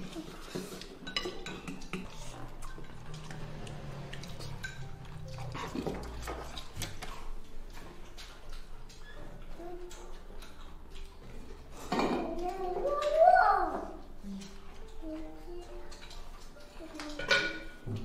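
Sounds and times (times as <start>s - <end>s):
chopsticks and spoons clinking bowls: 0.0s - 18.0s.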